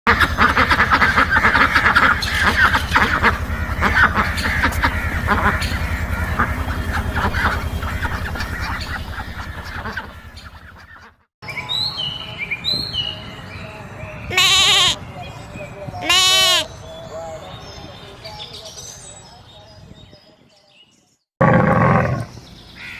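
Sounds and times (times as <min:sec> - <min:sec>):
flock of birds calling: 0:00.1 - 0:20.2.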